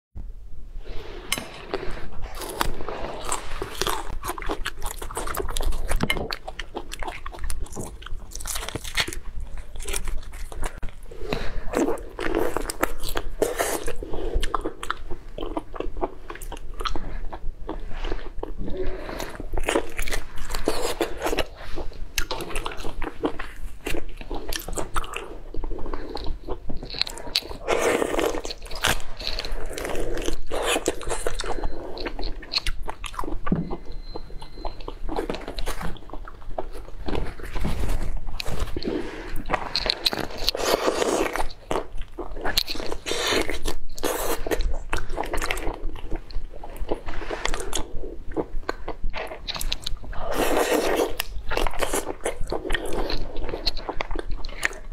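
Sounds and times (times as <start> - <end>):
wet chewing and smacking: 2.2 - 54.9.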